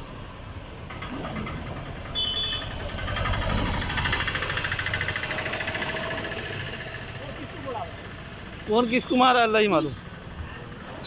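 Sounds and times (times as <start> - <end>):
vehicle engine chugging: 0.4 - 10.9.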